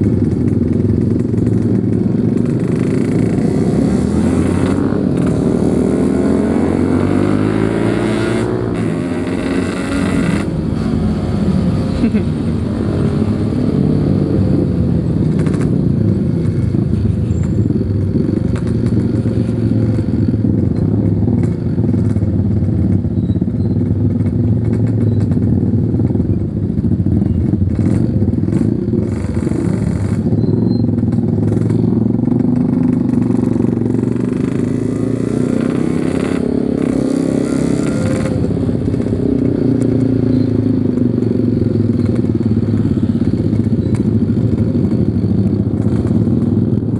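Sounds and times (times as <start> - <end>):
two-stroke motorcycle engine: 0.0 - 46.9.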